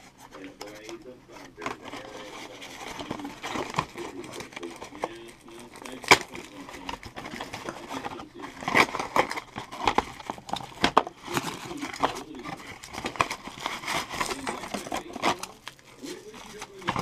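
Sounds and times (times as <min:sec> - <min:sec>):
cardboard box rustling and scraping: 0:01.6 - 0:17.0.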